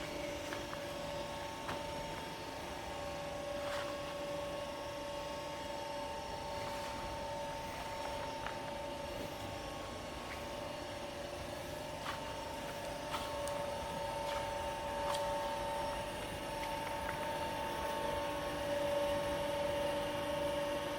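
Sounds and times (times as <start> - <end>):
lathe mechanical whine: 0.0 - 20.9.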